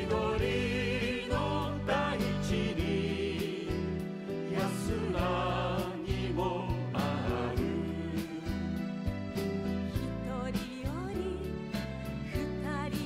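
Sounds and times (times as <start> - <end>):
instrumental pop music with beat: 0.0 - 13.0.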